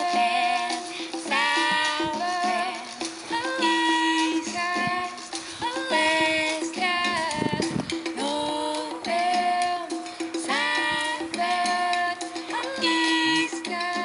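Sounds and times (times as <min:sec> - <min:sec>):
upbeat song with singing: 0:00.0 - 0:14.0.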